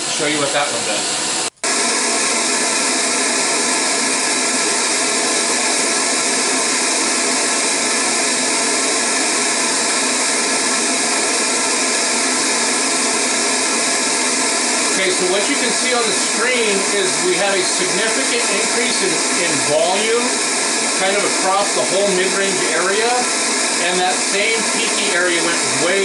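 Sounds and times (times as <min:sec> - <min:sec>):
pink noise hiss through speaker: 0:00.0 - 0:26.0.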